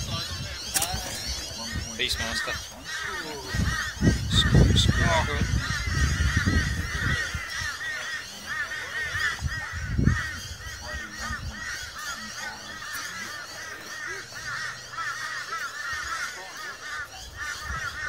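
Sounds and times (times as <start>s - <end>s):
flock of birds chattering: 0.0s - 18.0s.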